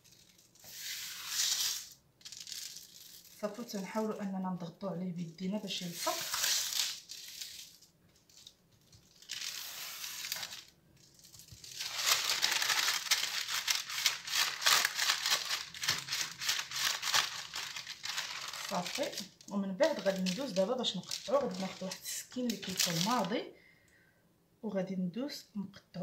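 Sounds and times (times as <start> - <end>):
baking paper rustling and crinkling: 0.0 - 4.3, 5.6 - 23.3.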